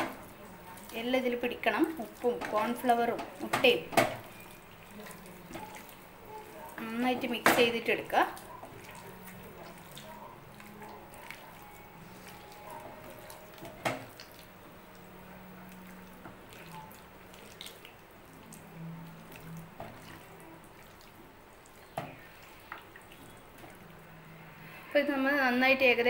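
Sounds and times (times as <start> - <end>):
wet squelching and dripping: 0.0 - 24.9.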